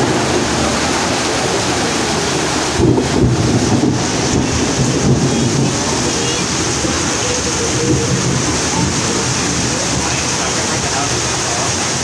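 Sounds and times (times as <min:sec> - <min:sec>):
heavy rain hissing: 0:00.0 - 0:12.0
low thunder rumble: 0:00.0 - 0:12.0.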